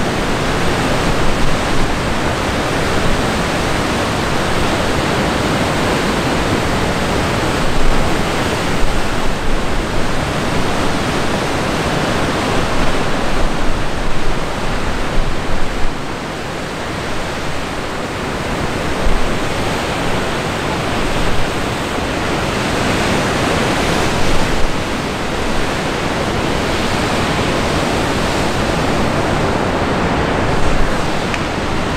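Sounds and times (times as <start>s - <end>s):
surf crashing against rocks: 0.0s - 31.9s
wind gusting on microphone: 0.0s - 31.9s.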